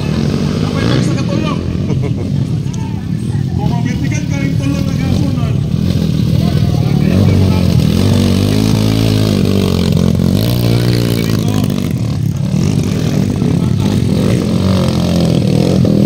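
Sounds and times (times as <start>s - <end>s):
dirt bike engine revving: 0.0s - 2.1s, 3.5s - 16.0s.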